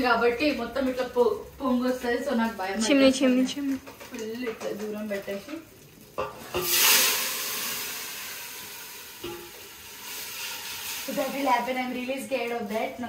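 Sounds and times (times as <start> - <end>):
water sizzling in hot oil: 0.0 - 13.0.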